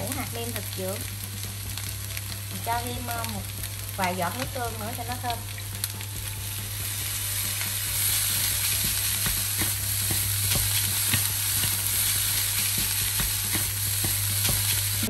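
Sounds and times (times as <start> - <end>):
rice sizzling in a frying pan: 0.0 - 15.0.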